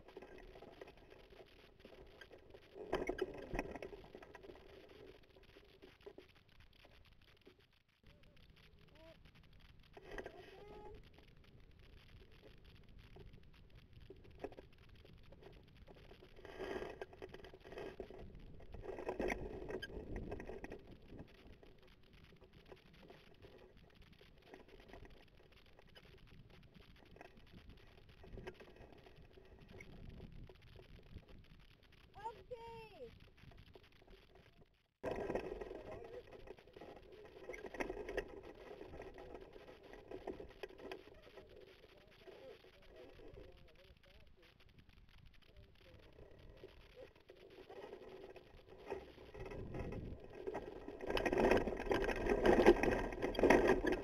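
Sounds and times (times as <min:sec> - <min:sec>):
sail rustling and crackling: 0:00.0 - 0:54.0
wind rushing over camera: 0:08.4 - 0:54.0.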